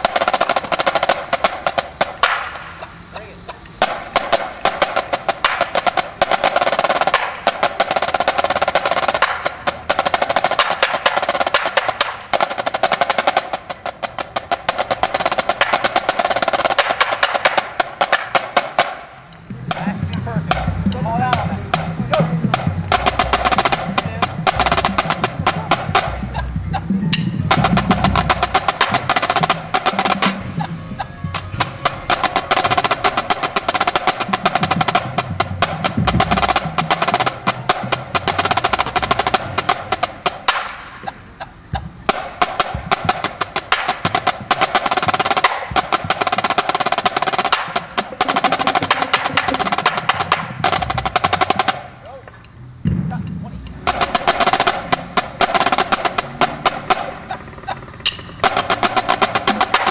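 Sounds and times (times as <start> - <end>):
snare drums playing in unison: 0.0 - 59.9.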